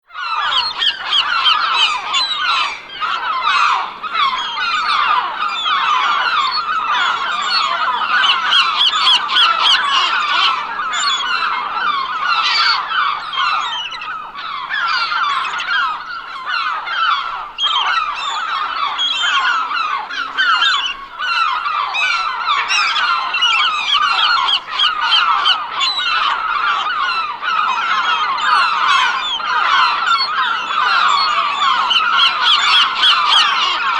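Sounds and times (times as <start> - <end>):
flock of gulls calling: 0.0 - 33.9.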